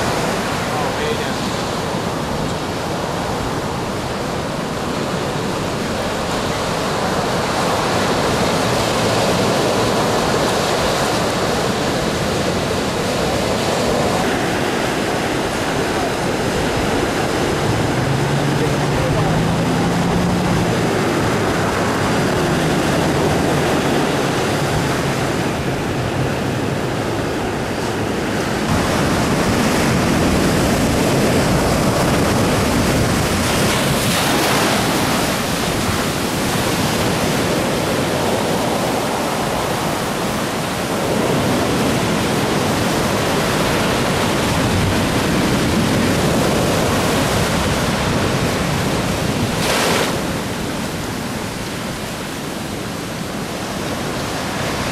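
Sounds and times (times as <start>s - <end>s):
ocean surf breaking: 0.0s - 54.9s.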